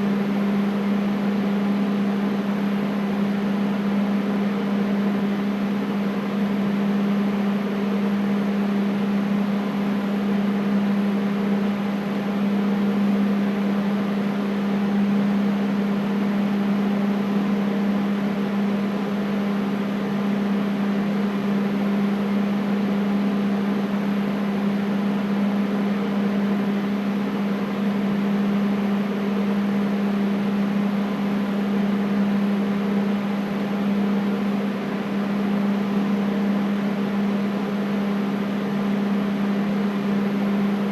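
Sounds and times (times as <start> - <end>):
air conditioner humming: 0.0 - 40.9.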